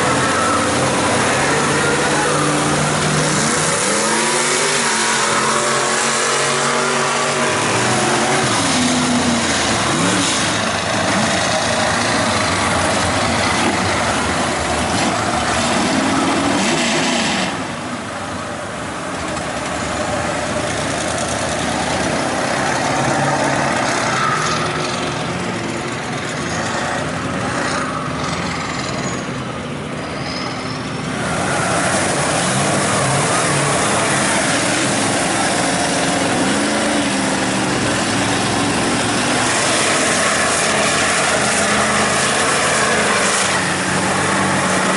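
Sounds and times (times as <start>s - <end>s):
loud noisy wash: 0.0s - 28.9s, 29.5s - 44.9s
truck engine revving: 0.0s - 44.9s.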